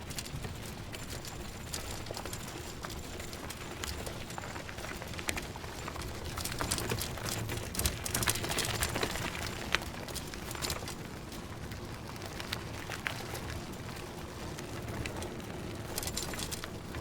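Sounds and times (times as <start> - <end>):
bicycle tyre noise: 0.0 - 17.0
bike clicks and rattles: 0.0 - 17.0.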